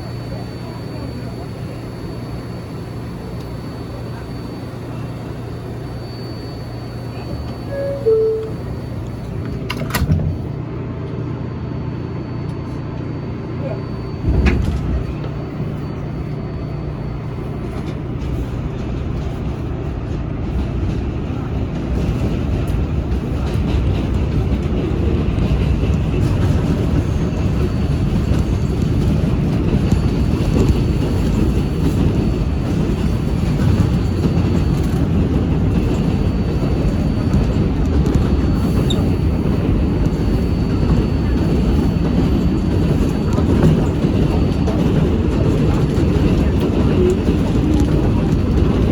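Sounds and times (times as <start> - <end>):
subway wheels rumbling on rail: 0.0 - 48.9.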